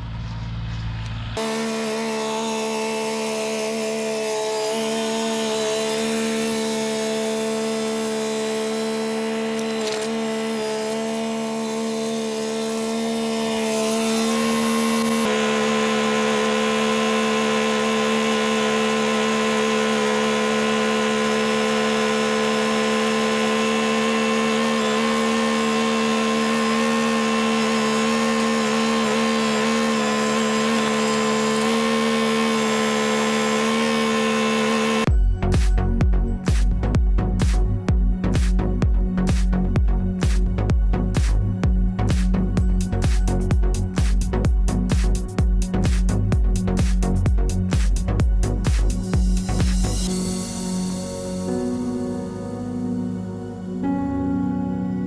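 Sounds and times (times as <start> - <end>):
machine engine droning: 0.0 - 51.8.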